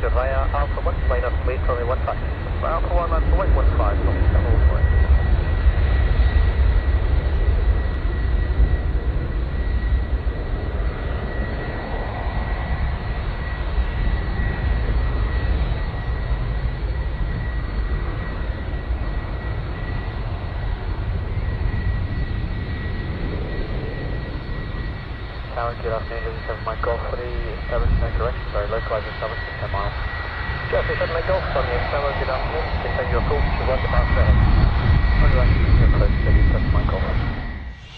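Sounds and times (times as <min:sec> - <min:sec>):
airliner engines rumbling: 0:00.0 - 0:37.9.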